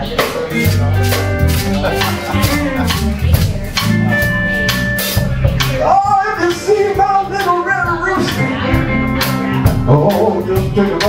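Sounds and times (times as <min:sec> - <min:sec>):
bending guitar melody: 0:00.0 - 0:11.0
blues band playing: 0:00.0 - 0:11.0.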